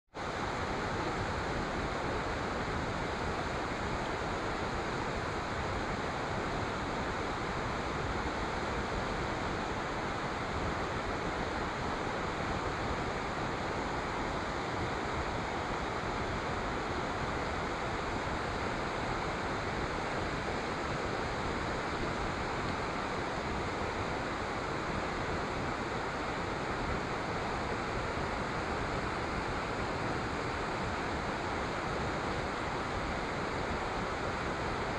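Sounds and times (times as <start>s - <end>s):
water rushing over rocks: 0.2s - 34.9s.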